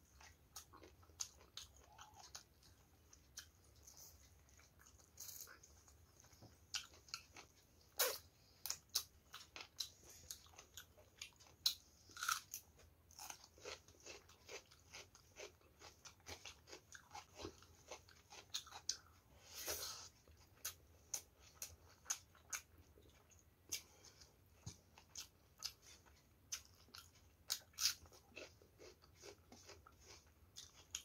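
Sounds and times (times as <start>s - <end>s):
chewing with crunches: 0.0s - 31.0s.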